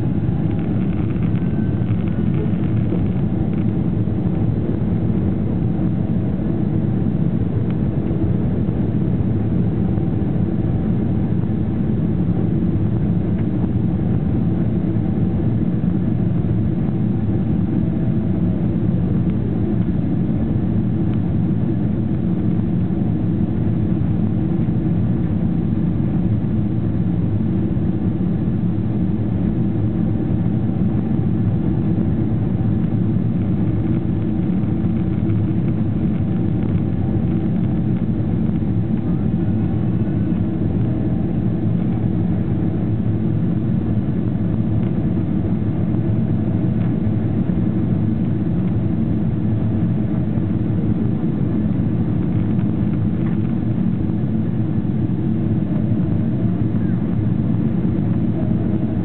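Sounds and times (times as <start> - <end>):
faint tonal hum: 0.0 - 59.0
jet engines rumbling in cabin: 0.0 - 59.0.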